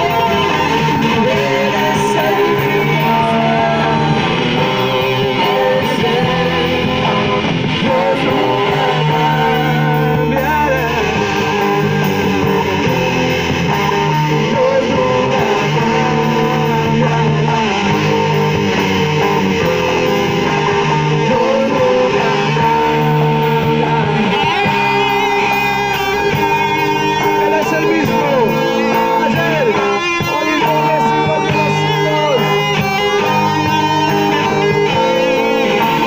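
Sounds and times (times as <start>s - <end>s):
guitar-led band music: 0.0s - 36.0s.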